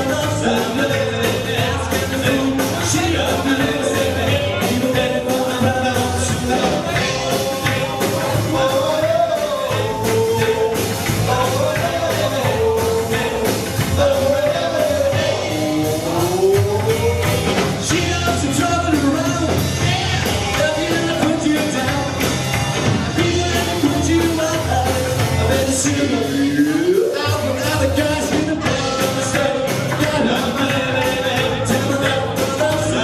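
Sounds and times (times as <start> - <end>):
person singing: 0.0 - 22.3, 23.1 - 33.0
rock and roll band playing: 0.0 - 33.0.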